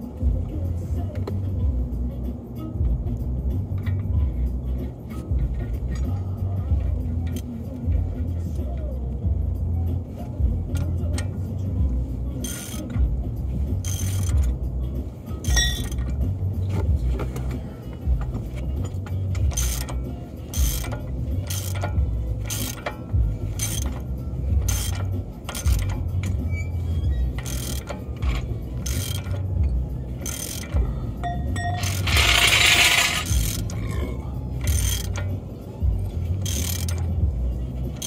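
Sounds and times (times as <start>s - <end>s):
low steady rumble: 0.0s - 38.0s
ratchet wrench clicking: 2.8s - 8.9s, 10.2s - 38.0s.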